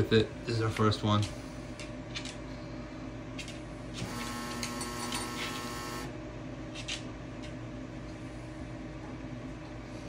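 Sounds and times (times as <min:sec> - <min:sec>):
stove fan hum: 0:00.0 - 0:10.0.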